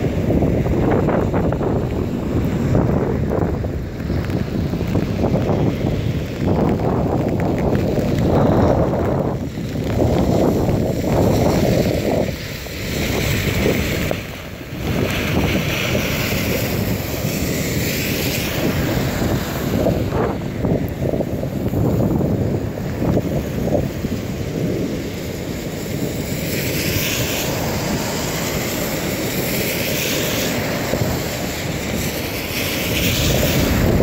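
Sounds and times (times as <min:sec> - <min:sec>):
wind buffeting the microphone: 0:00.0 - 0:34.0.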